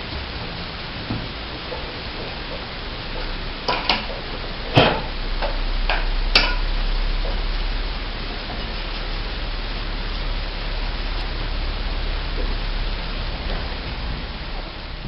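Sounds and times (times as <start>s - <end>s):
low hum: 0.0s - 15.0s
steady hiss: 0.0s - 15.0s.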